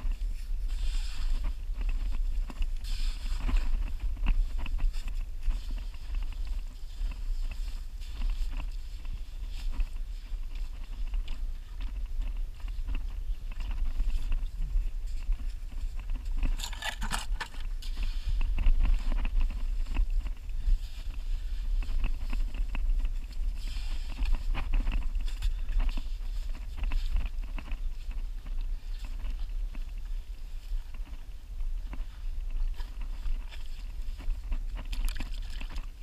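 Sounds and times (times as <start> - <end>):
rustle: 0.0 - 36.0
wind rumble on microphone: 0.0 - 36.0.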